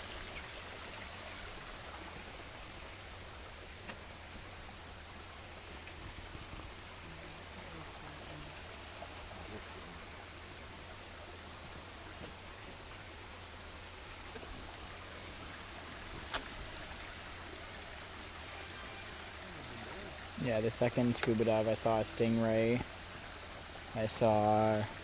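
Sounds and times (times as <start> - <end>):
high-pitched insect drone: 0.0 - 25.0
rainforest hiss: 0.0 - 25.0.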